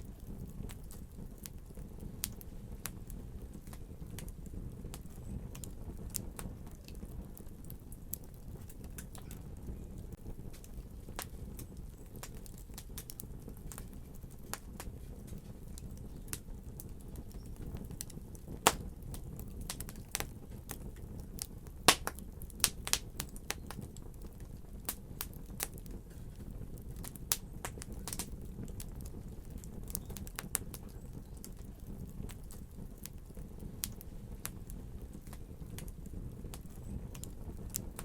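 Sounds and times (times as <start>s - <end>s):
fire crackling and popping: 0.0s - 38.0s
low fire rumble: 0.0s - 38.0s.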